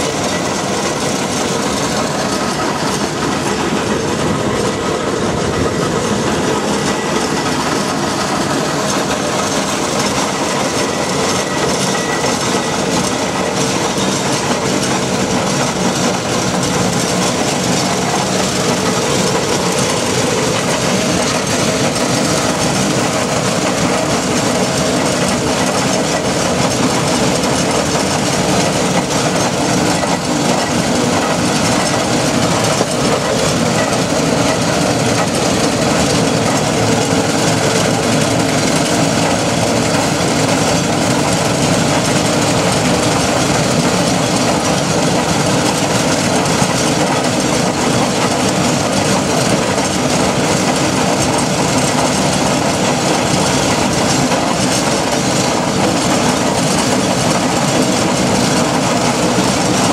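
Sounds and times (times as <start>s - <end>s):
steam roller rumbling and clattering: 0.0s - 59.9s.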